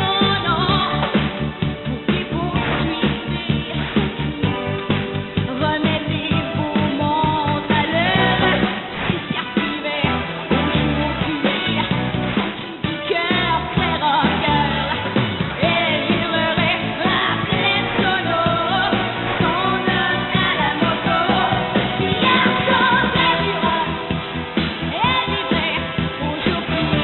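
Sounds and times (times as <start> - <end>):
pop song with singing: 0.0 - 27.0.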